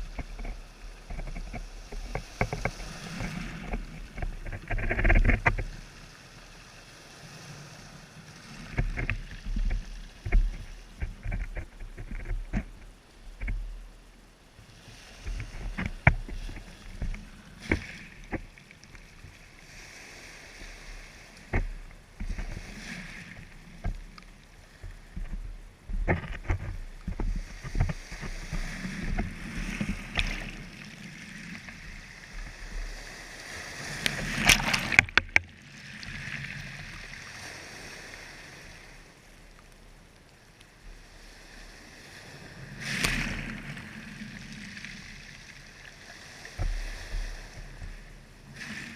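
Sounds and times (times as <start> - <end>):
water sloshing and splashing: 0.0 - 7.6, 14.9 - 39.3, 40.9 - 48.9.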